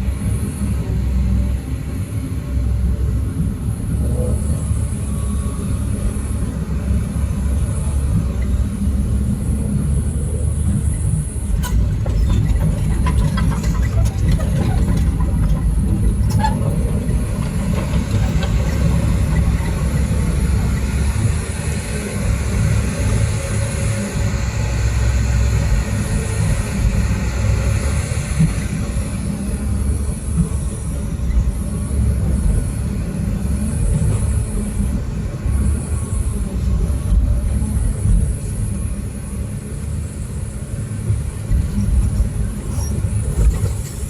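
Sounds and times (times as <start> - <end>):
diesel machinery rumbling: 0.0 - 44.0.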